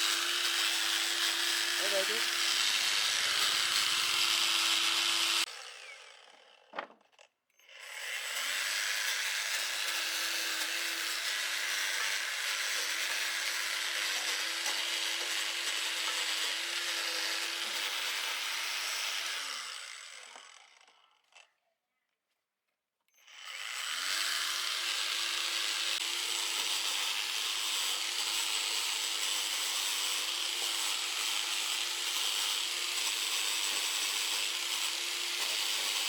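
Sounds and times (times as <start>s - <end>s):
power tool grinding: 0.0s - 21.5s, 23.2s - 36.0s.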